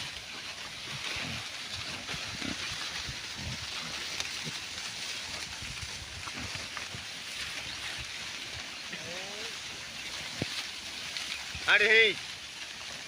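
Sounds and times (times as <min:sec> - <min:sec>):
wind-like outdoor noise: 0:00.0 - 0:13.0.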